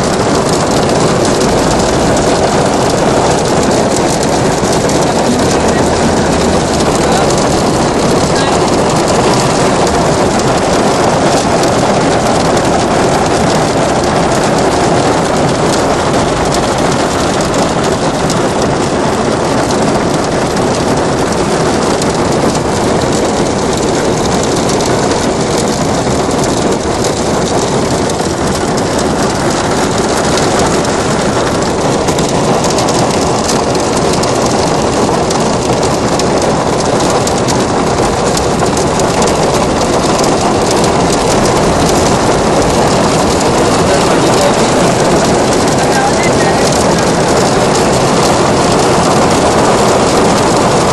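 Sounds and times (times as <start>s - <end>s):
hail pelting surfaces: 0.0s - 50.9s.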